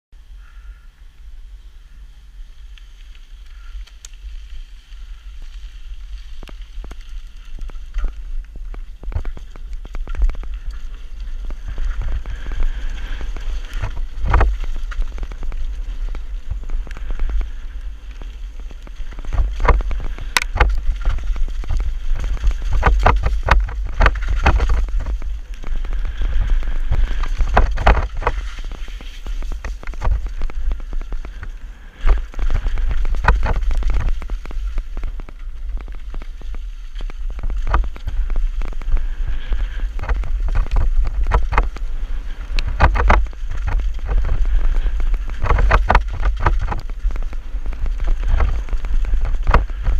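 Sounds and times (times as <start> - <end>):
wind rumbling on microphone: 0.1 - 49.9
tyres on gravel: 2.5 - 49.9
bike knocking over bumps: 6.3 - 49.9.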